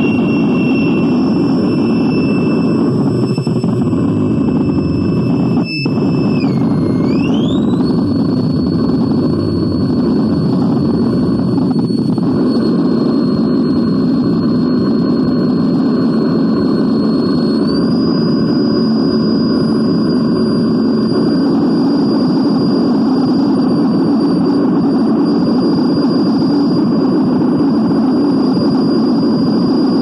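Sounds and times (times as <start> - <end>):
electronic noise: 0.0 - 30.0
thin high whine: 0.0 - 30.0.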